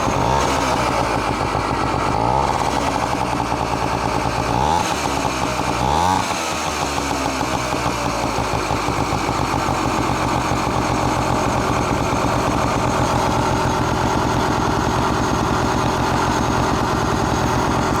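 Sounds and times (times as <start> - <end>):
scooter engine revving and idling: 0.0 - 18.0.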